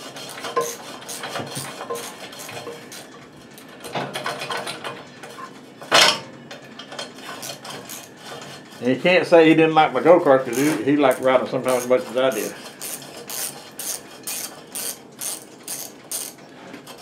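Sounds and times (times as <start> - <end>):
tools and metal parts clinking: 0.2 - 8.5, 10.5 - 17.0.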